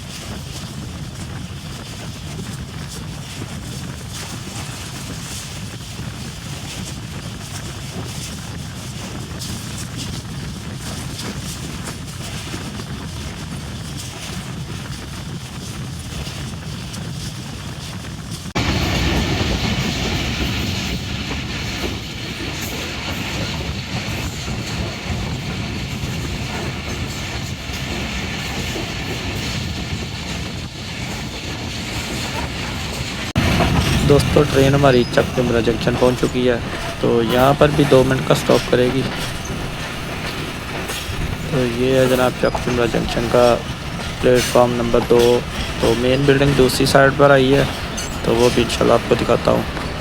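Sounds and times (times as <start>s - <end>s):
passenger train running: 0.0s - 50.0s.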